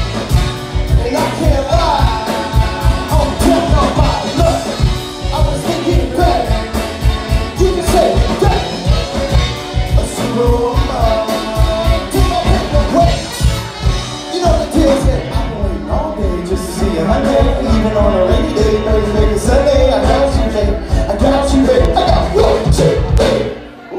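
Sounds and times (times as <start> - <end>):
steady drum beat: 0.0 - 23.6
live band playing: 0.0 - 23.9
person singing into microphone: 0.8 - 6.7, 7.6 - 13.5, 14.3 - 23.9.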